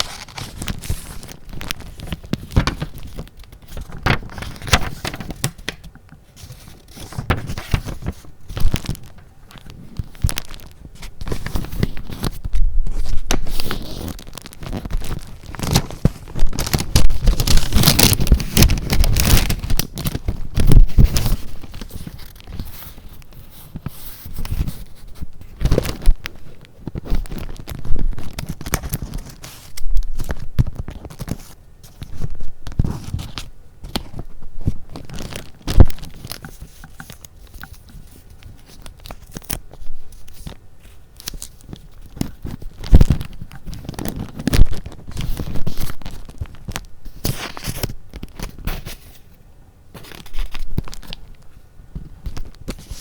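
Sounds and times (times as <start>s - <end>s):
paper rustling and crinkling: 0.0s - 49.4s, 50.0s - 53.0s.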